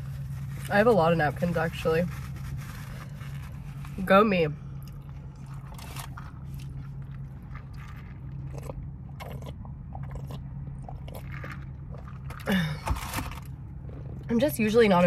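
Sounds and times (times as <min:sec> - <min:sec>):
chewing and crunching food: 0:00.0 - 0:14.5
low hum: 0:00.0 - 0:15.0.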